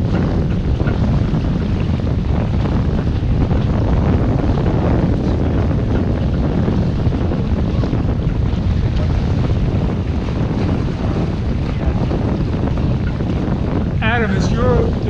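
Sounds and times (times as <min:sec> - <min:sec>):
water along boat hull: 0:00.0 - 0:15.0
wind buffeting microphone: 0:00.0 - 0:15.0.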